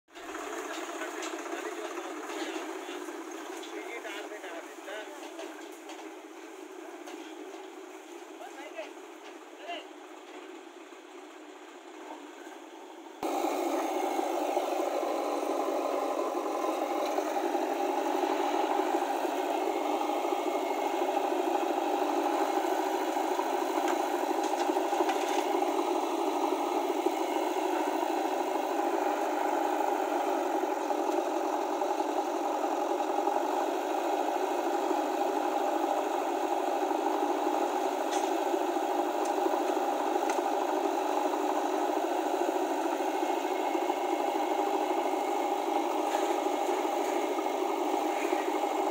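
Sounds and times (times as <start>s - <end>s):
motor droning with rattle: 0.1s - 48.9s.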